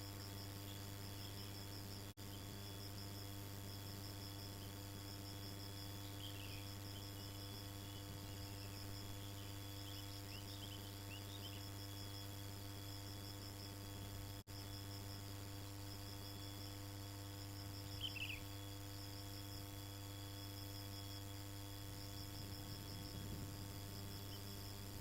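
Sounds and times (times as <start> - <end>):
faint low hum: 0.0 - 25.0
insects chirping trill: 0.0 - 25.0.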